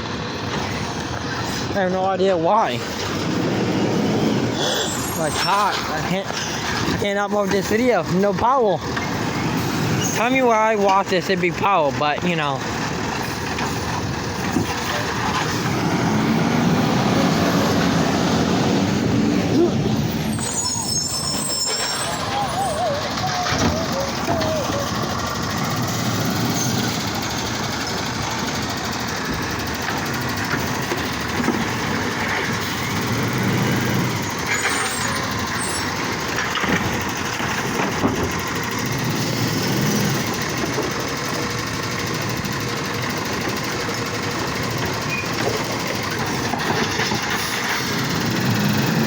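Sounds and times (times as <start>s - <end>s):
garbage truck engine running: 0.0s - 49.0s.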